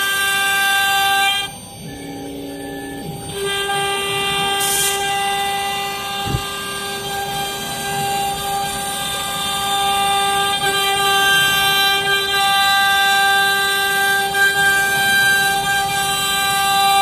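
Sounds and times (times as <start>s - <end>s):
cnc router cutting fibreboard: 0.0s - 17.0s.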